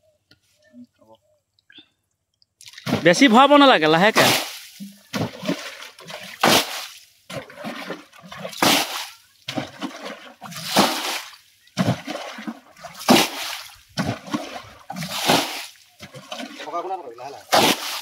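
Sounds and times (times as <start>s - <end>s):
water sloshing: 1.6s - 18.0s
water splashing: 2.4s - 18.0s.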